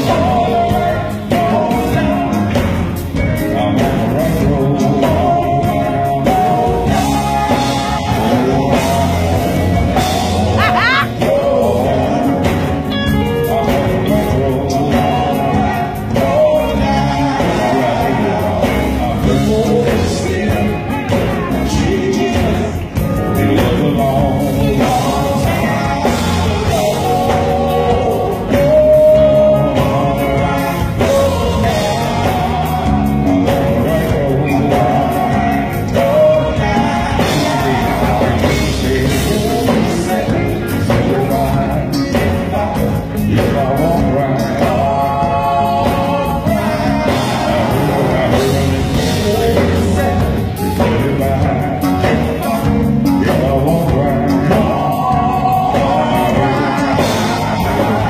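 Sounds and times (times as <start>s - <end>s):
band with electric guitar: 0.0s - 58.0s
male vocal group singing: 0.0s - 58.0s.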